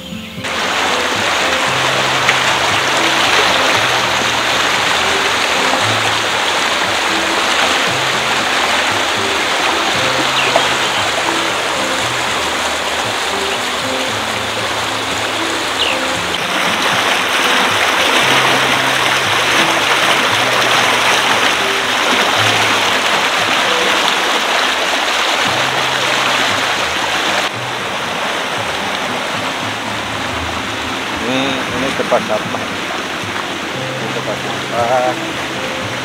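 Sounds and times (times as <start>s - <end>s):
flowing stream: 0.0s - 36.0s
instrumental background music: 0.0s - 36.0s.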